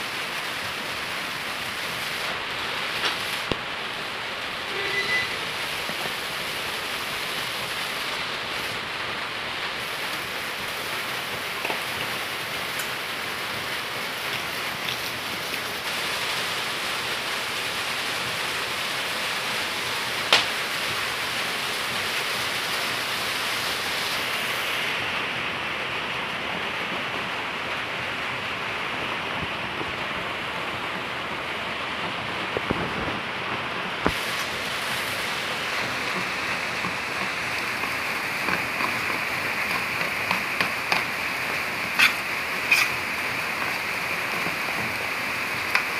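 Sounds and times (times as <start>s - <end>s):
steady hiss: 0.0s - 45.9s.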